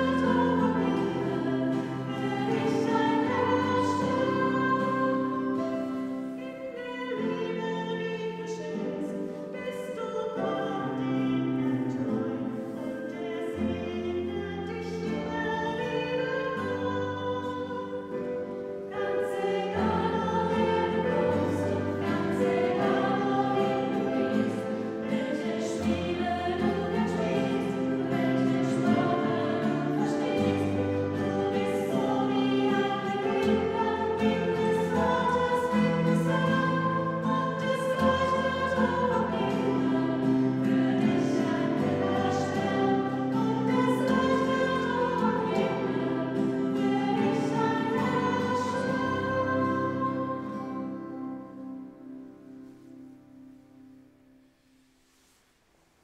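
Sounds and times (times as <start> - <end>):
sustained accompaniment: 0.0 - 7.4, 10.4 - 53.6
choir singing: 0.0 - 52.8.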